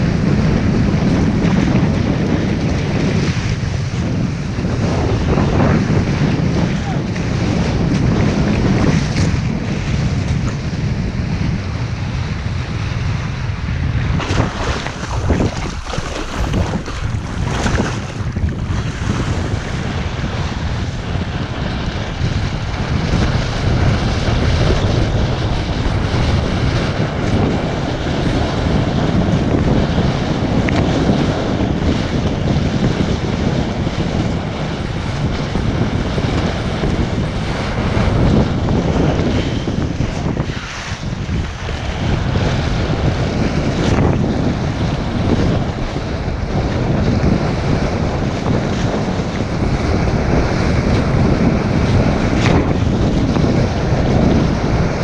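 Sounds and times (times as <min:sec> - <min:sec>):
water rushing and splashing: 0:00.0 - 0:55.0
wind buffeting microphone: 0:00.0 - 0:55.0.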